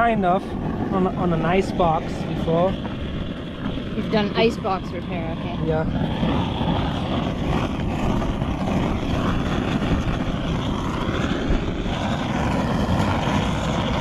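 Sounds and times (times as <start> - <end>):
blowtorch roaring: 0.0 - 14.0.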